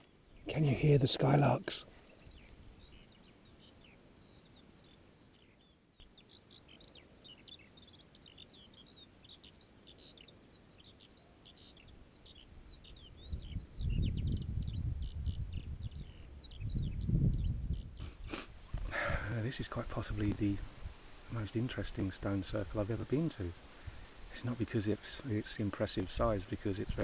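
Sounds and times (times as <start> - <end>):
skylarks singing: 0.0 - 27.0.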